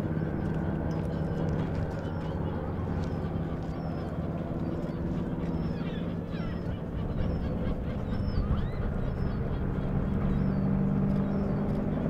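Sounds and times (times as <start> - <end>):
birds chirping: 0.0 - 12.0
radial engine plane droning overhead: 0.0 - 12.0.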